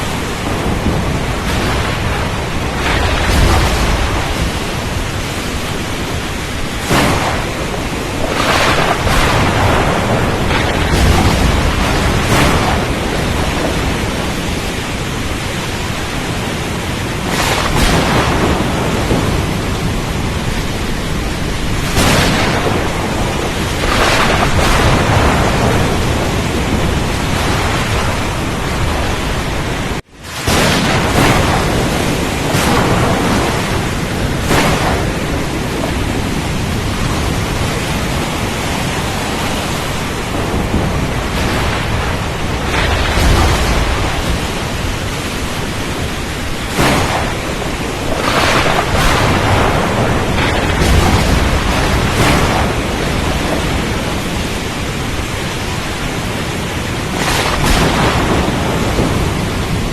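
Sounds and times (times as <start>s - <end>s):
heavy rain: 0.0s - 59.9s
wind roaring: 0.0s - 59.9s.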